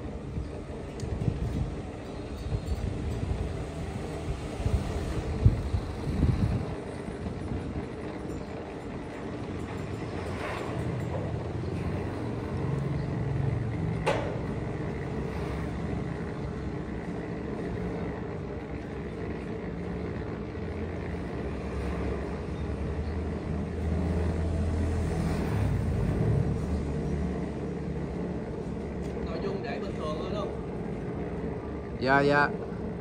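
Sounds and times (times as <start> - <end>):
gate motors humming: 0.0 - 33.0.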